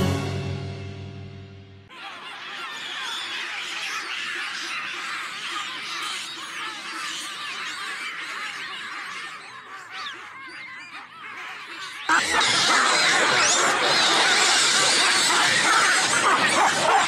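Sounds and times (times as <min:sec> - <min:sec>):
baboons screaming and barking: 0:01.9 - 0:17.0.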